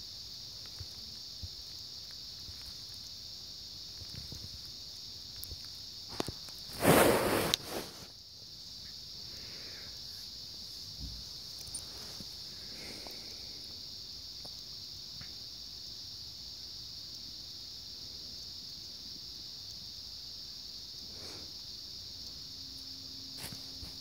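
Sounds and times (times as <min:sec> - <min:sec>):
high-pitched hiss: 0:00.0 - 0:24.0.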